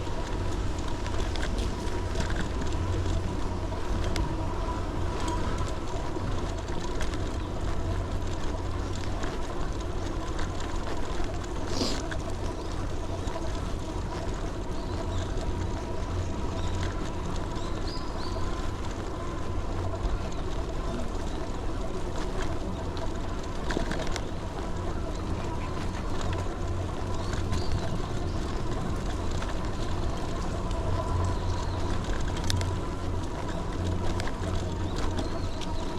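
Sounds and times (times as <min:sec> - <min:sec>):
tyres on wet road: 0:00.0 - 0:35.9.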